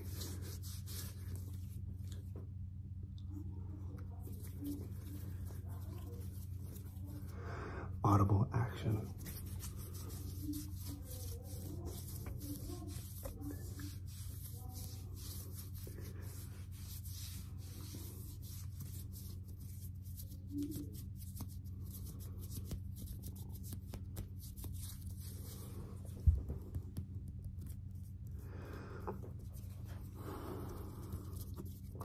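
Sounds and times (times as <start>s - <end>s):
hands rubbing together: 0.0s - 2.3s, 4.2s - 7.3s, 9.0s - 28.4s, 29.3s - 32.0s
steady low hum: 0.0s - 32.0s.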